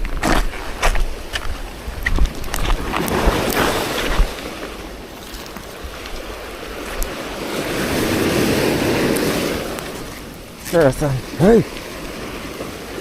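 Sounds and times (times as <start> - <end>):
sea waves washing ashore: 0.0 - 13.0
wind on microphone: 0.0 - 13.0.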